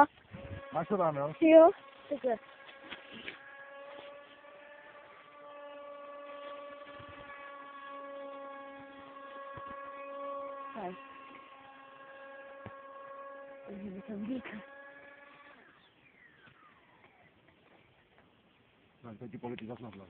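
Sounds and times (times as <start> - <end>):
model plane motor whine: 0.0 - 18.5.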